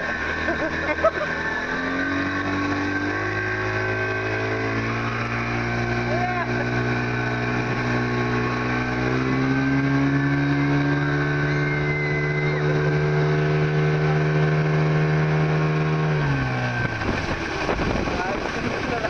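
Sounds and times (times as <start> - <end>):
rush of wind and water: 0.0 - 19.0
speedboat engine running: 0.0 - 19.0.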